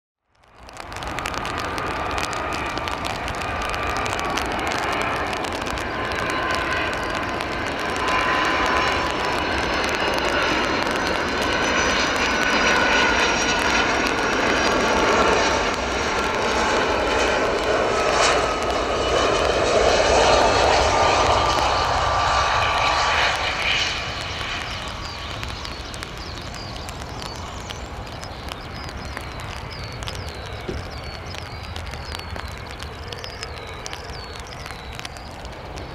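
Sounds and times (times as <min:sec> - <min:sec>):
jet engines landing: 0:00.4 - 0:35.9.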